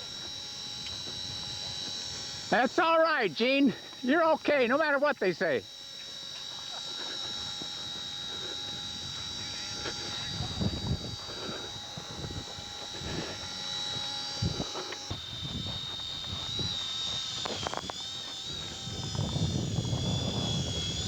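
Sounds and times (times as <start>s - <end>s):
model aircraft engine whine: 0.0s - 21.0s.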